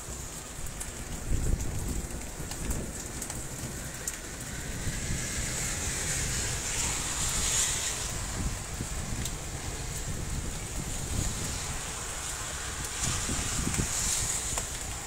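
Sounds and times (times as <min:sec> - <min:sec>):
heavy rain pouring: 0:00.0 - 0:15.0
sharp clicks of raindrops: 0:00.0 - 0:15.0
wind gusts buffeting microphone: 0:00.0 - 0:15.0.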